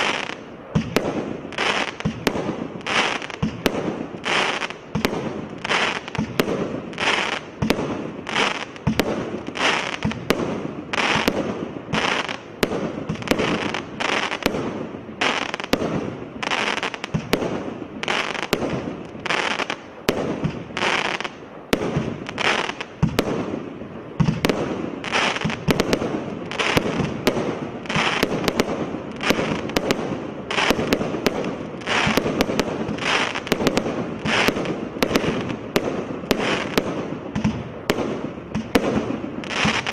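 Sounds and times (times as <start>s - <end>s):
firework cake blasts: 0.0s - 39.9s
firework crackle: 0.0s - 39.9s.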